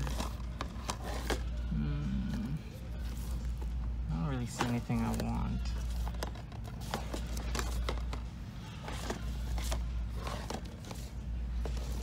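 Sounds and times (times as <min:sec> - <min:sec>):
plastic cases clicking and scraping: 0:00.0 - 0:01.7, 0:03.0 - 0:12.0.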